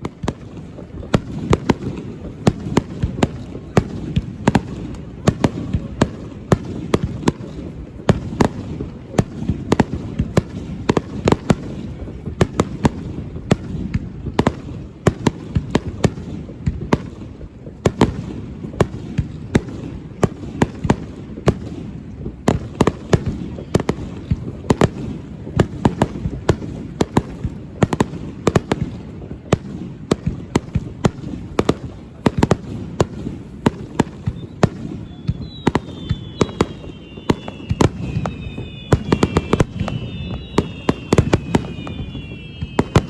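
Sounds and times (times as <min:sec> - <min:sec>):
fireworks bangs and rumble: 0:00.0 - 0:43.0.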